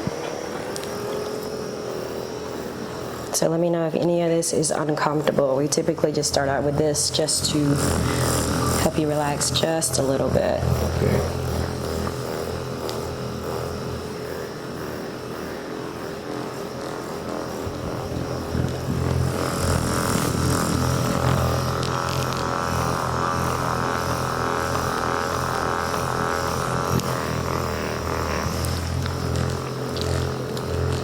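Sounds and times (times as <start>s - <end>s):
electric massager running: 0.0s - 31.0s.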